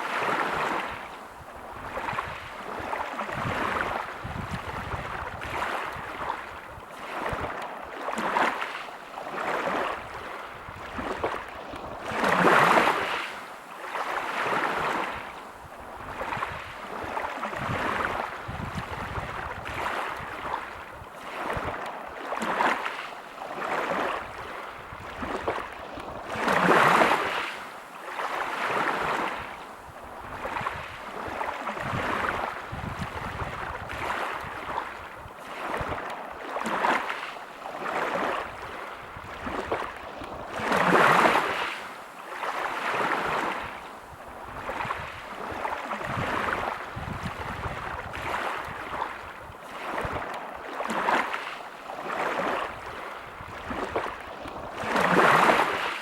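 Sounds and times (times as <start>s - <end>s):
waves washing over pebbles: 0.0s - 56.0s.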